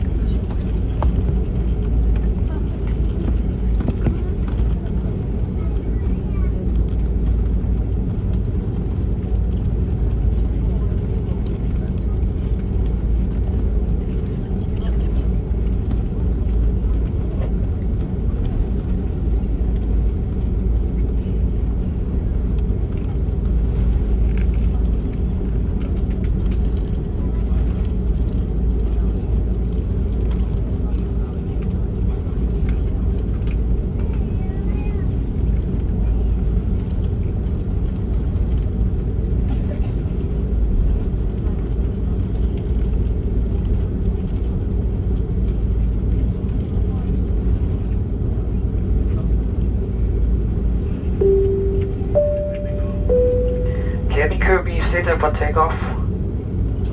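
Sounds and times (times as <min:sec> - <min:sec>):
airliner cabin low rumble: 0:00.0 - 0:56.9
airplane rolling noise: 0:00.0 - 0:56.9
jet engines running low thrust: 0:00.0 - 0:56.9.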